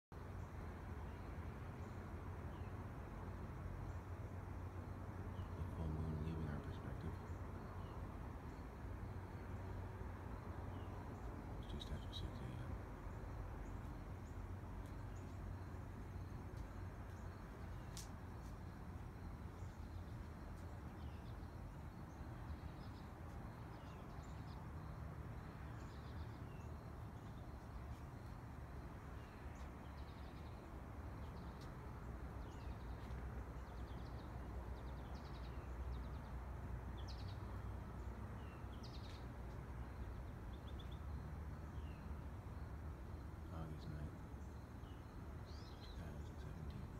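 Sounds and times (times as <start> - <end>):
low outdoor rumble: 0.2 - 46.9
birds chirping: 4.8 - 46.9.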